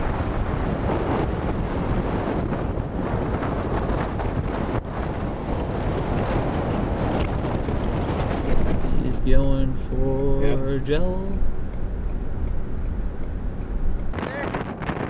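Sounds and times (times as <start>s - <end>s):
road noise: 0.0s - 15.0s
wind rushing over microphone: 0.0s - 15.0s.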